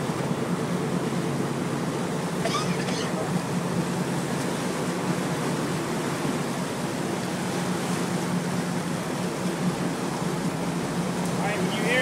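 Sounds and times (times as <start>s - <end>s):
boat engine droning: 0.0s - 12.0s
water churning along hull: 0.0s - 12.0s.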